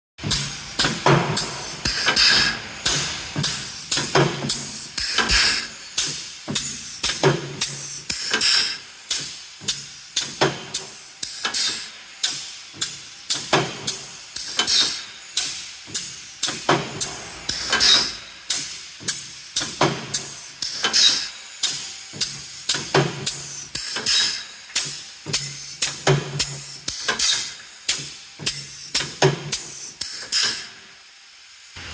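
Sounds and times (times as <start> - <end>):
welding machine metallic clanks: 0.2 - 30.8
machine hiss: 0.2 - 31.9.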